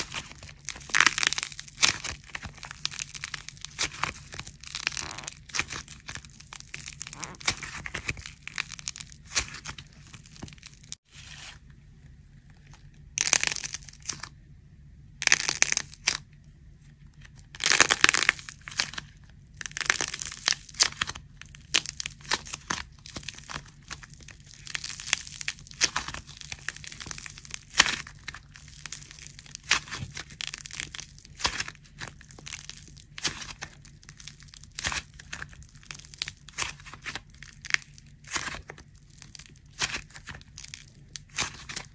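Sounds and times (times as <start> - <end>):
dry clay crackling and tearing: 0.0 - 11.7, 12.4 - 14.4, 15.2 - 16.4, 17.0 - 41.9.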